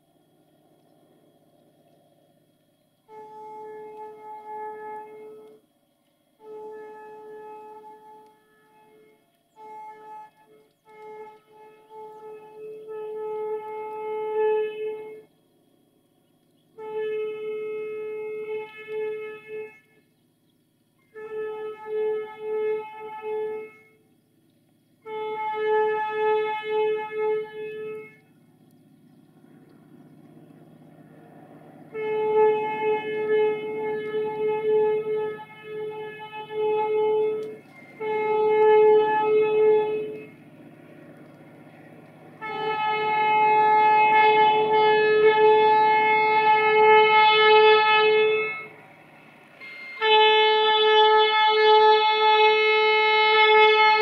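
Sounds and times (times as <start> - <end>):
low rumble of train: 0.0 - 54.0
train horn blasts: 0.0 - 54.0.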